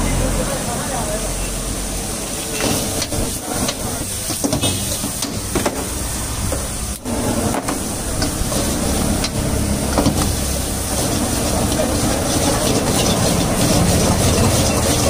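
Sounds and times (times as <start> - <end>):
gas burner hissing: 0.0 - 15.0
rice frying: 1.7 - 15.0
ladle scraping and knocking on wok: 2.5 - 15.0.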